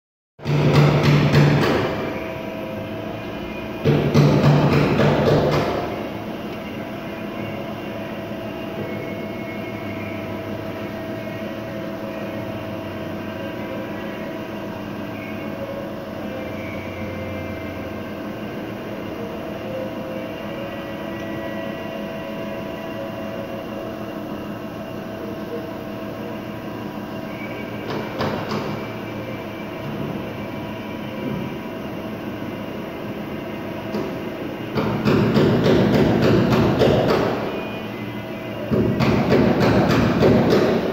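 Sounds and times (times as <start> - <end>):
grinding machine humming and whining: 0.4 - 40.9.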